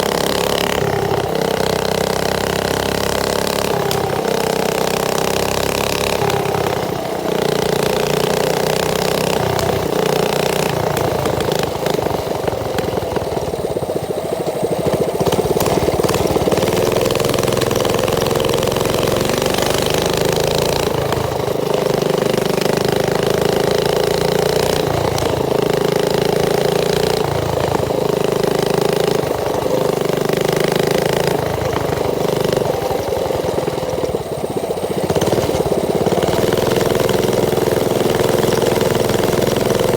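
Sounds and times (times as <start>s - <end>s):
small motorbike engine running: 0.0s - 39.9s.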